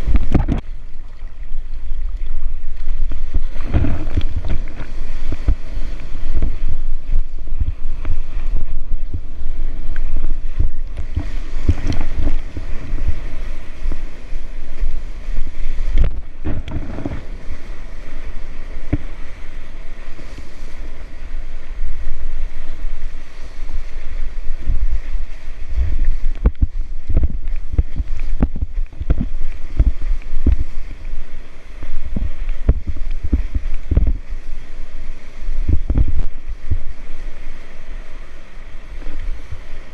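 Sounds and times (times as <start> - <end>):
surf and moving water: 0.0 - 39.9
wind buffeting microphone: 0.0 - 39.9.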